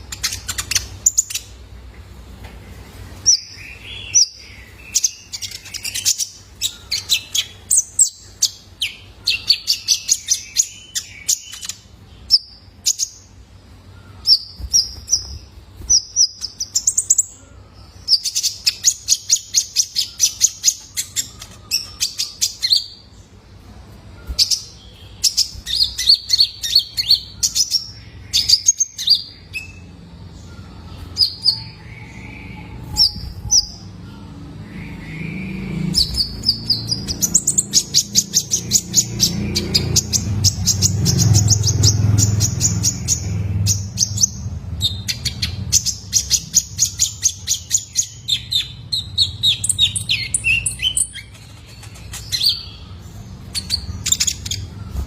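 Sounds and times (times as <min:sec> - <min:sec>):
bird chirps and trills: 0:00.0 - 0:55.0.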